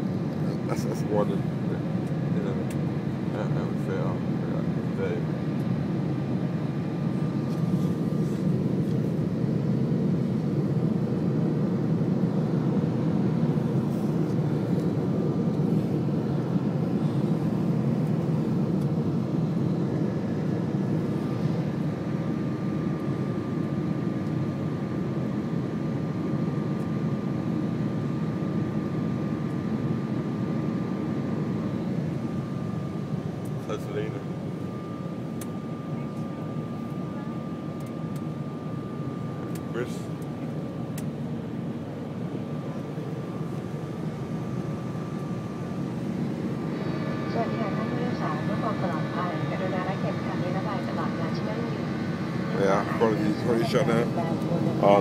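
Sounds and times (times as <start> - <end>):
jet engines roaring: 0.0 - 26.1, 28.5 - 55.0.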